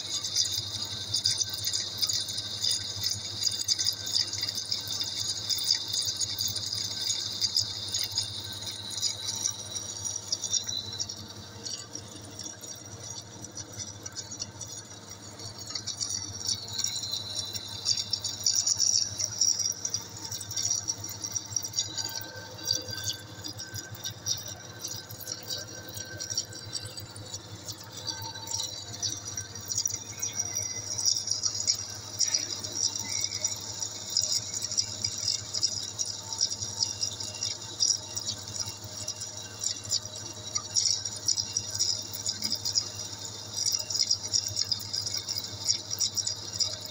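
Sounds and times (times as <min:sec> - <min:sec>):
high crackling rattle: 0:00.0 - 0:46.9.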